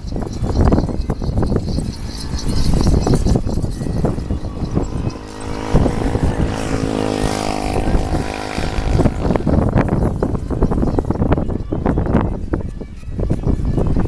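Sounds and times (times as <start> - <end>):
vehicle engine droning: 0.0 - 14.0
wind rumble on microphone: 0.0 - 14.0.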